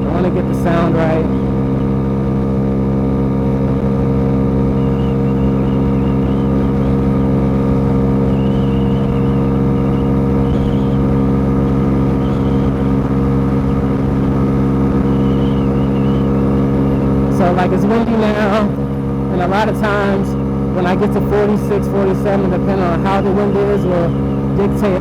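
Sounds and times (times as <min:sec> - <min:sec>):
scooter engine at high revs: 0:00.0 - 0:25.0.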